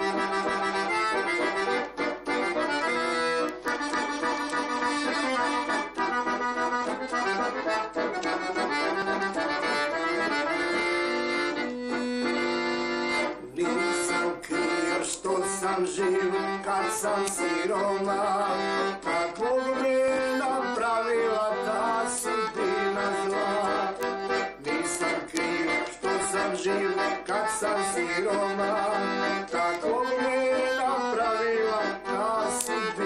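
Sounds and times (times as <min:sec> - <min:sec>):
accordion playing folk tune: 0:00.0 - 0:33.0.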